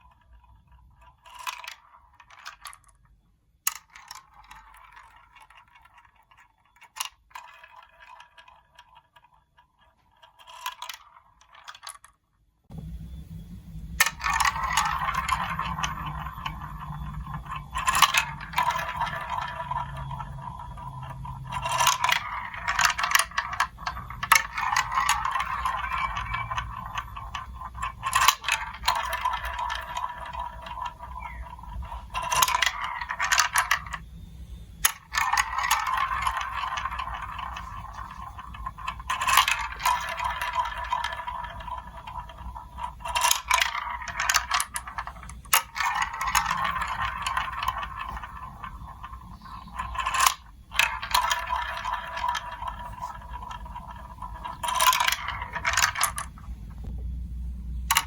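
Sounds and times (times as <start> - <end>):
marbles clicking: 0.0 - 12.8, 13.8 - 57.0, 57.8 - 58.0
marbles rolling on marble run: 0.0 - 13.0, 13.7 - 57.0, 57.8 - 58.0.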